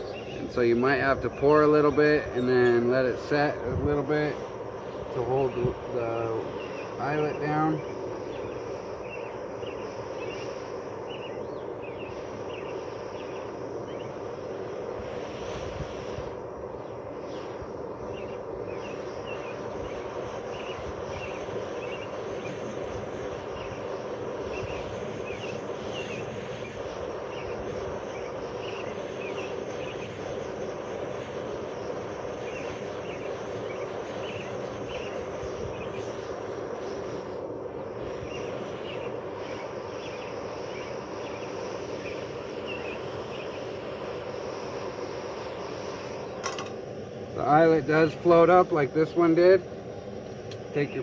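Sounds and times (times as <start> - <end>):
steady outdoor noise: 0.0 - 51.0.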